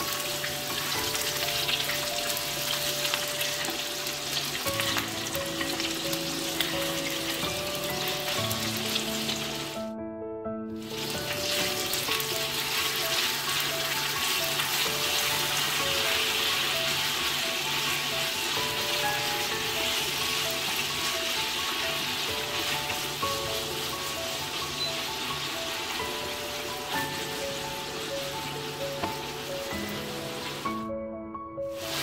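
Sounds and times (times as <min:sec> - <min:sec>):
tofu sizzling in hot oil: 0:00.0 - 0:09.8, 0:10.8 - 0:30.7, 0:31.7 - 0:32.0.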